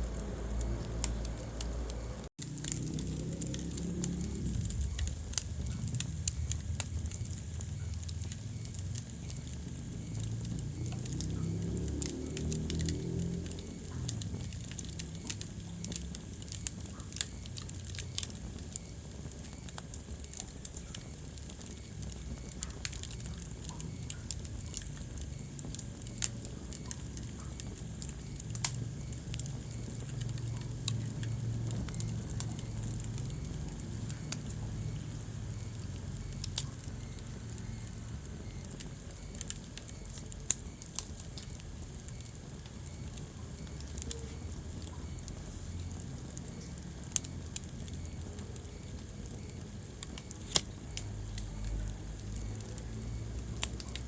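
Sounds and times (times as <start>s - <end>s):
fire low rumble: 0.0s - 54.0s
wood fire crackling and popping: 0.0s - 54.0s.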